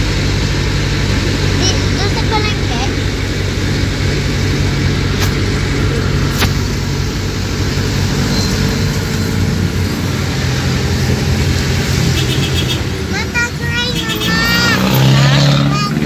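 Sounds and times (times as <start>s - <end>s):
low engine drone: 0.0s - 16.0s
wind and road noise: 0.0s - 16.0s.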